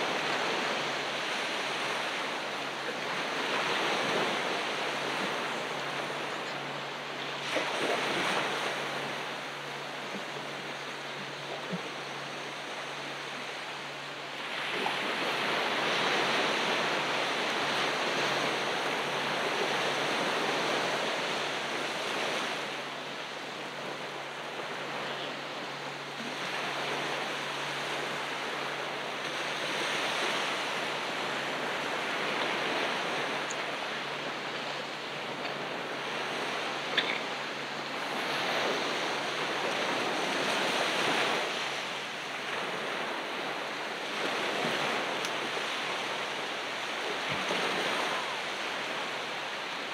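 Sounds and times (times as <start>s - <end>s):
ocean surf washing onto beach: 0.0s - 49.9s.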